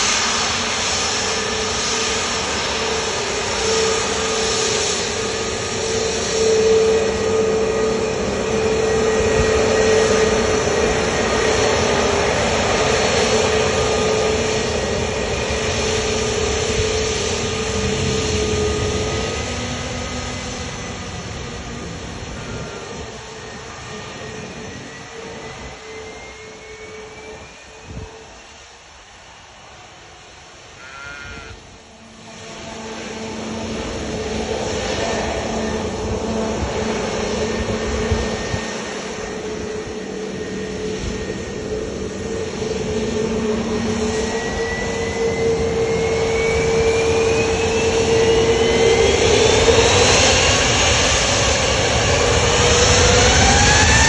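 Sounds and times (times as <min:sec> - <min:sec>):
jet engine droning: 0:00.0 - 0:54.0.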